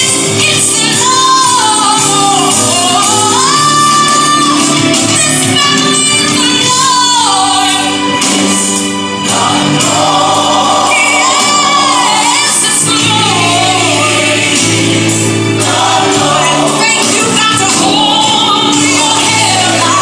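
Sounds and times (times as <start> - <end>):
gospel choir song: 0.0 - 20.0.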